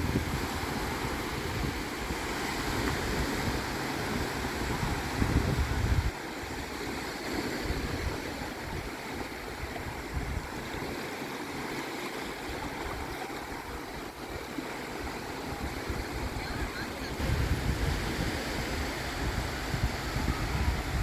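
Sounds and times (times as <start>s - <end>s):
wind buffeting microphone: 0.0s - 11.0s, 12.2s - 21.0s
sea water washing and splashing: 0.0s - 21.0s.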